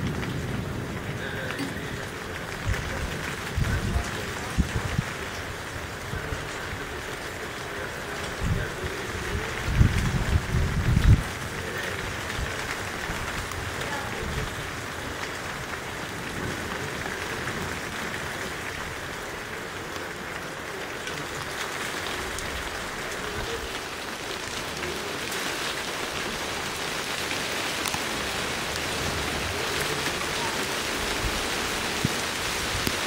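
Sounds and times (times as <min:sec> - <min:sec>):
rain patter: 0:00.0 - 0:33.0.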